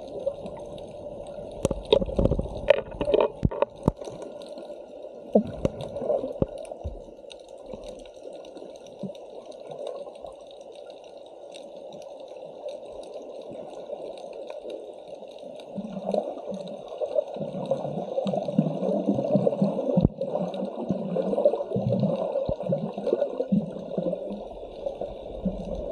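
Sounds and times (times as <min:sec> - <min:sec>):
water rushing underwater: 0:00.0 - 0:25.9.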